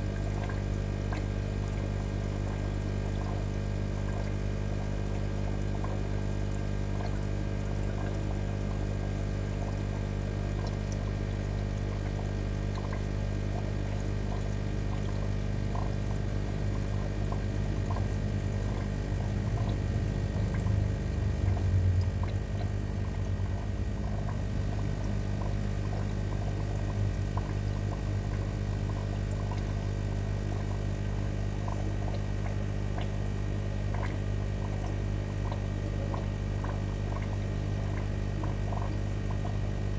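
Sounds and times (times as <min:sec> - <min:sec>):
aquarium water bubbling: 0:00.0 - 0:39.9
filter pump humming: 0:00.0 - 0:39.9.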